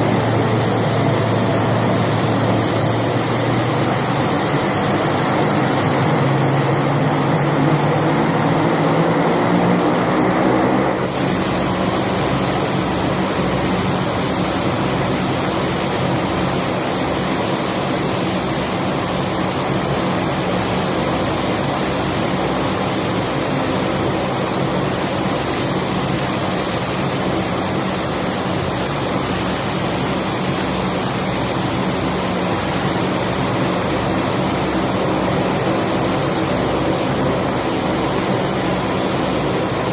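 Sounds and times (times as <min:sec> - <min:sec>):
aircraft engines running: 0:00.0 - 0:39.9.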